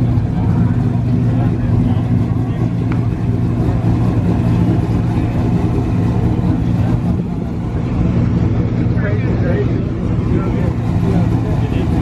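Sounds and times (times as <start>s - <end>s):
car engine idling: 0.0s - 12.0s
low background voices: 0.0s - 12.0s.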